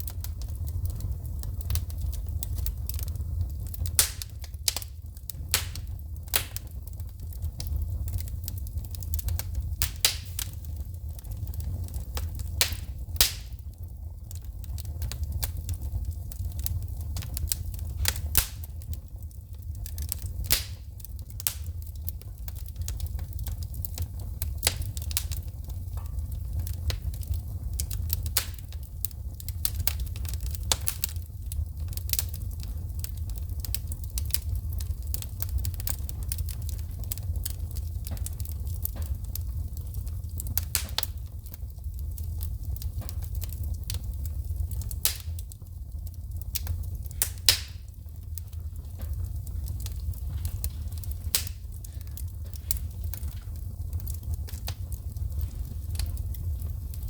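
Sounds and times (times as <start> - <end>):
sparks popping and snapping: 0.0 - 45.6, 46.2 - 57.0
low fire rumble: 0.0 - 57.0
wood fire crackling: 0.0 - 57.0.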